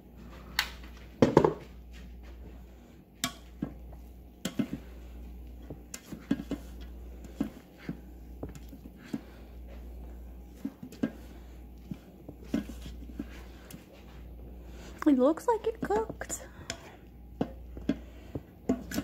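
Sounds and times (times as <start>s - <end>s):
steady low hum: 0.0s - 19.0s
utensil scraping a pot: 3.2s - 19.0s.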